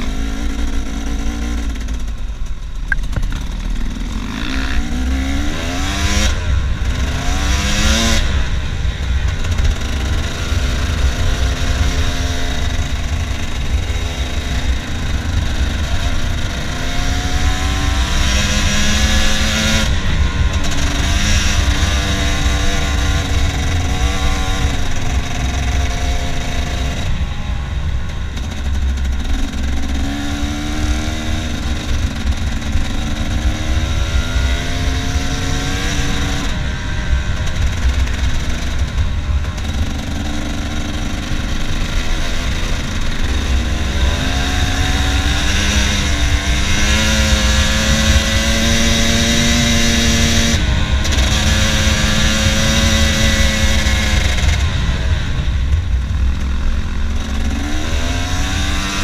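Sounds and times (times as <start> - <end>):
dirt bike engine revving: 0.0 - 59.0
wind rumble on microphone: 0.0 - 59.0.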